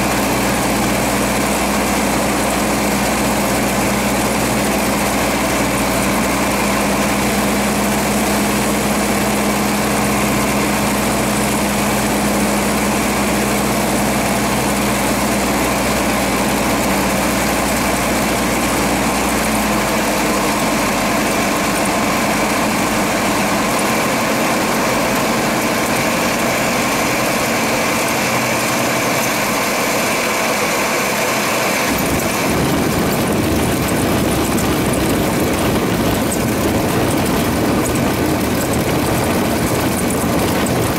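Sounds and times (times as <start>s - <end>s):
aircraft engine and propeller drone: 0.0s - 40.9s
wheels rolling on runway: 0.0s - 40.9s.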